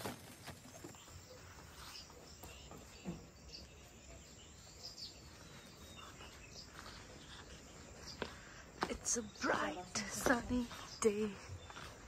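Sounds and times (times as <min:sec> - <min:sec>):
insects and birds chirping: 0:00.0 - 0:12.0.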